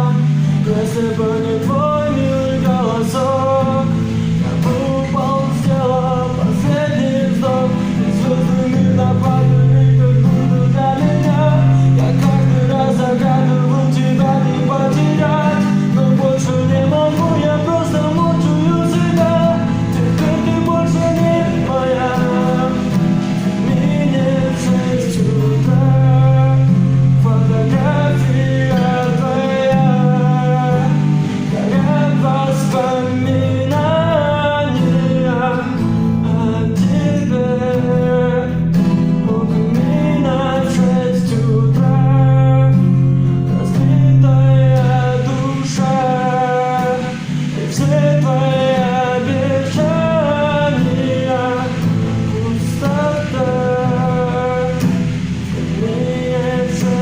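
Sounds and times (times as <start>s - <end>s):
acoustic guitar: 0.0s - 57.0s
person singing pop song: 0.0s - 57.0s.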